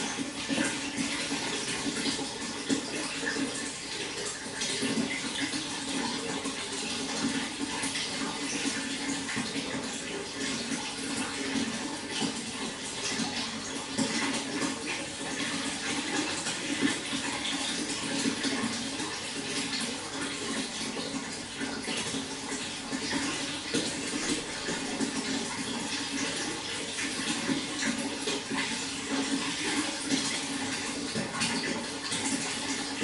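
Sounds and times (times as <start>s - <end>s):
water pouring and splashing: 0.0s - 33.0s.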